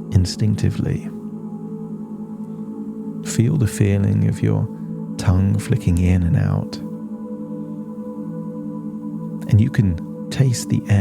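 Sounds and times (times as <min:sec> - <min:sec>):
ambient music drone: 0:00.0 - 0:11.0.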